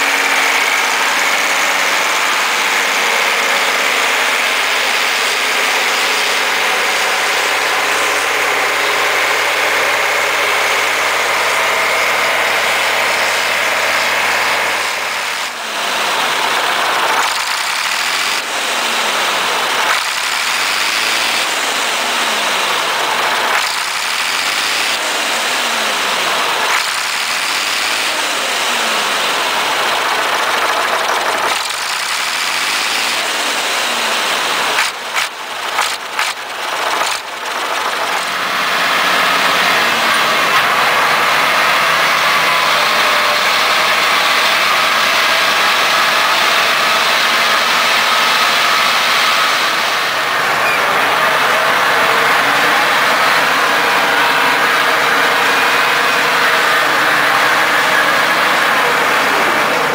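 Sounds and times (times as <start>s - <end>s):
wheel loader diesel engine running: 0.0s - 59.9s.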